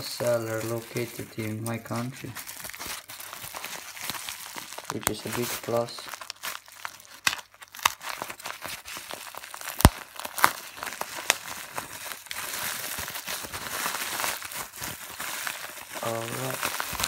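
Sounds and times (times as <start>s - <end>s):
bubble wrap crinkling: 0.0s - 17.0s
bubble wrap snap: 0.0s - 17.0s.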